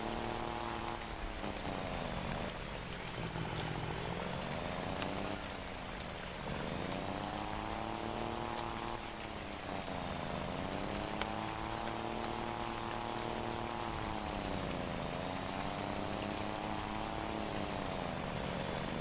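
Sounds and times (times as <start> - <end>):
truck diesel engine accelerating: 0.0 - 19.0.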